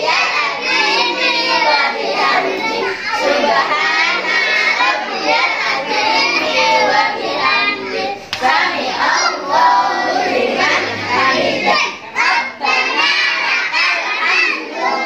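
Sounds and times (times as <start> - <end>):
children singing and calling out: 0.0 - 15.0.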